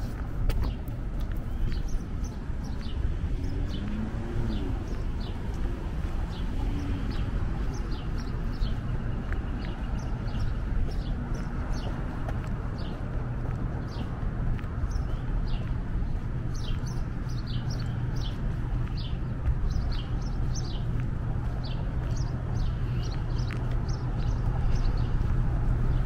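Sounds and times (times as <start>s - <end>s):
city traffic rumble: 0.0s - 26.0s
small birds chirping: 0.0s - 26.0s.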